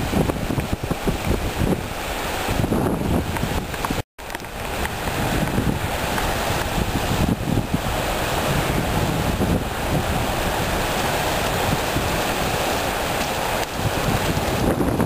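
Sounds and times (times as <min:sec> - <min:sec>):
small waves breaking on shore: 0:00.0 - 0:15.0
wind buffeting microphone: 0:00.0 - 0:15.0.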